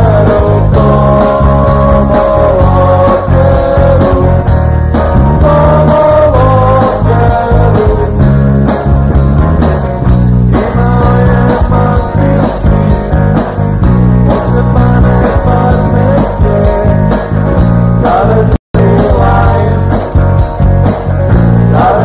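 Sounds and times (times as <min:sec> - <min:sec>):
rock song with sung vocals: 0:00.0 - 0:22.0.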